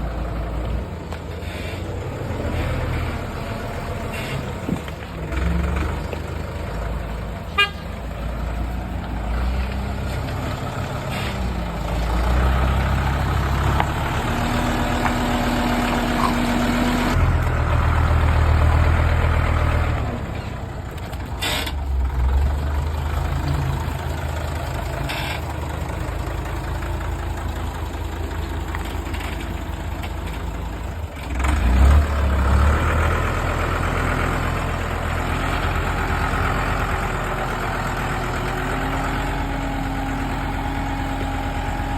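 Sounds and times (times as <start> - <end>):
heavy machine engine running: 0.0 - 41.9.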